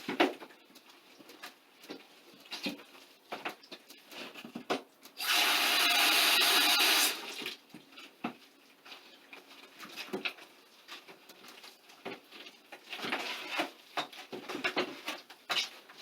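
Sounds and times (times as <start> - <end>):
handling knocks and rustles: 0.0 - 5.1, 7.4 - 16.0.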